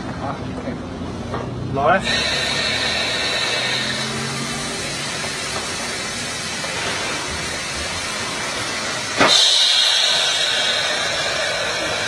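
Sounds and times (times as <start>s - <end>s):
loud hiss: 2.0s - 12.0s.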